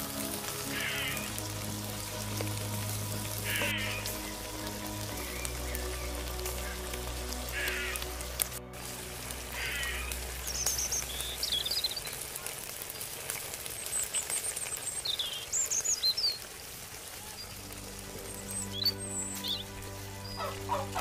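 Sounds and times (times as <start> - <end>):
birds chirping: 0.0 - 21.0
vegetables sizzling in a wok: 0.0 - 21.0.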